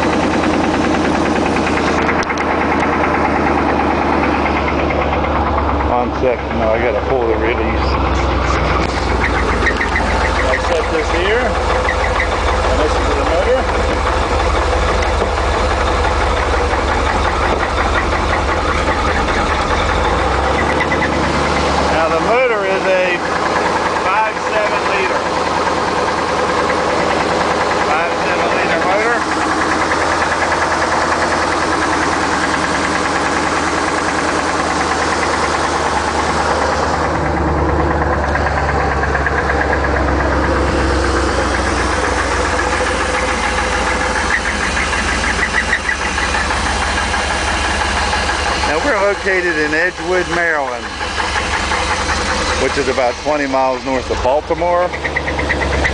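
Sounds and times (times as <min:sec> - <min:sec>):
truck engine idling with knock: 0:00.0 - 0:55.9.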